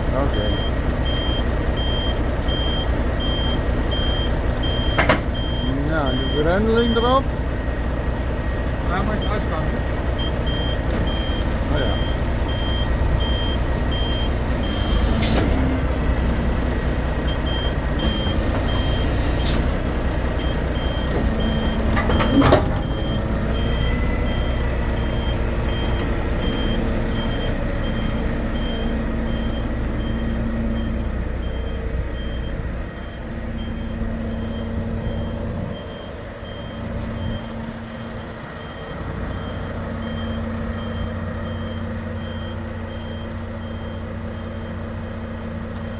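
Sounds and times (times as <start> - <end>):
truck engine running: 0.0 - 45.9
reversing alarm beeping: 0.2 - 7.4, 8.9 - 44.9.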